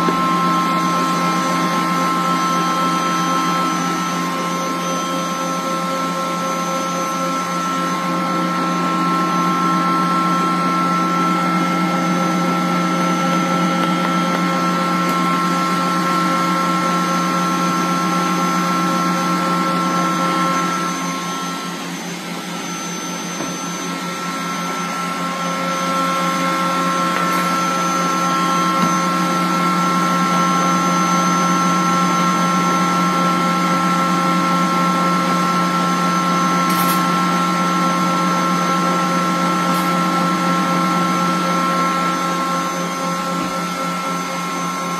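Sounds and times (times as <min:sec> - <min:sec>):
electric stand mixer running: 0:00.0 - 0:44.9.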